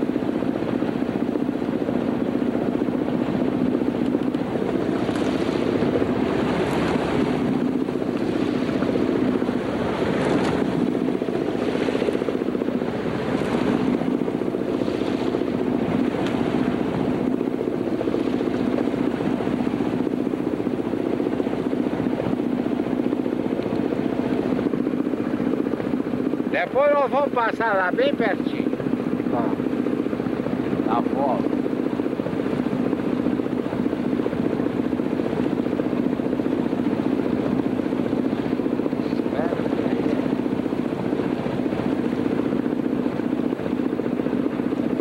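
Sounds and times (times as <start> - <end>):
steady low drone: 0.0 - 45.0
waves splashing against hull: 0.5 - 26.6, 28.6 - 45.0.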